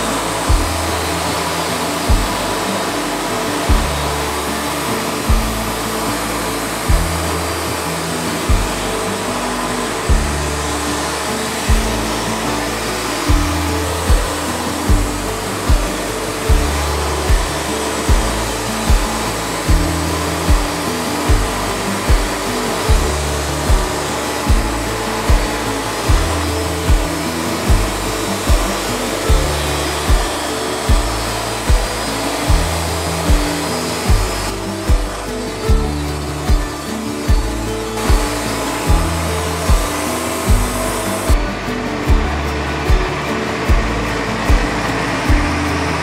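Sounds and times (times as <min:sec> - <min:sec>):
band saw cutting log: 0:00.0 - 0:46.0
music with bass beat: 0:00.0 - 0:46.0.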